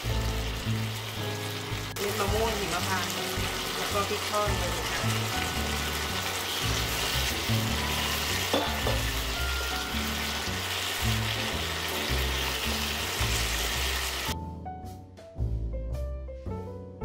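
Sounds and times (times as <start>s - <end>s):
food sizzling in hot oil: 0.0s - 14.4s.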